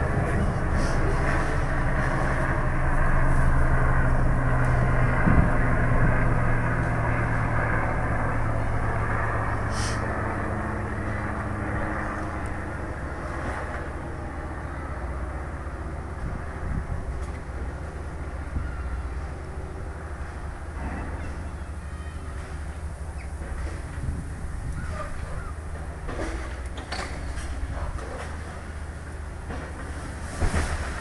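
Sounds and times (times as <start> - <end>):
excavator diesel engine humming: 0.0 - 30.2.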